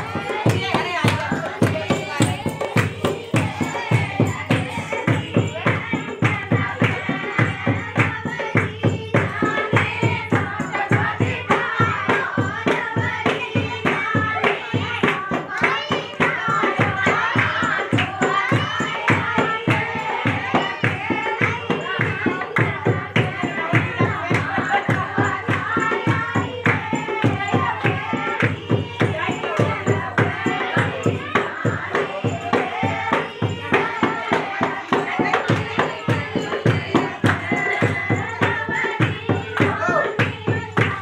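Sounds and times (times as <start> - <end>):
hand claps: 0.0 - 41.0
women singing folk song: 0.0 - 41.0.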